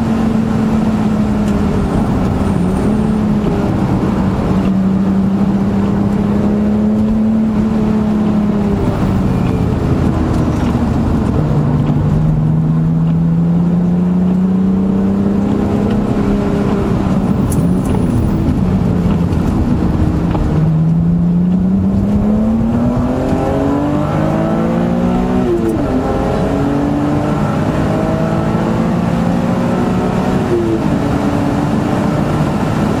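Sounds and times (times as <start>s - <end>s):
car engine accelerating: 0.0s - 33.0s
road and wind noise: 0.0s - 33.0s.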